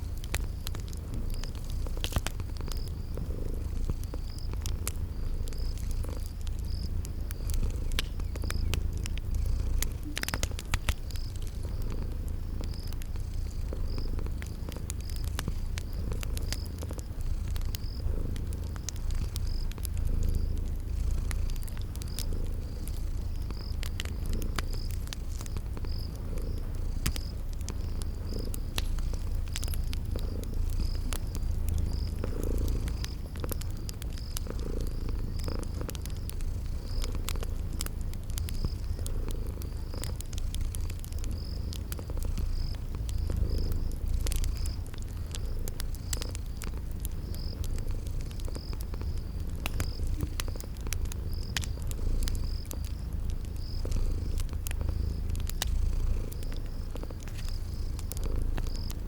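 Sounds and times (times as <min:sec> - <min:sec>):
cat purring: 0:00.0 - 0:59.0
cricket chirping: 0:00.0 - 0:59.0
wood fire crackling: 0:00.0 - 0:59.0.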